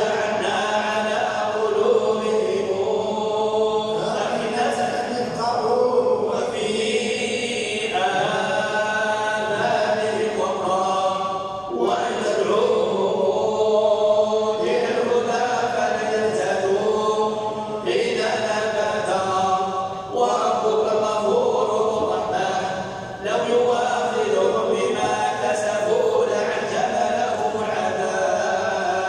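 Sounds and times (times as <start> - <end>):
person chanting a recitation: 0.0 - 29.0.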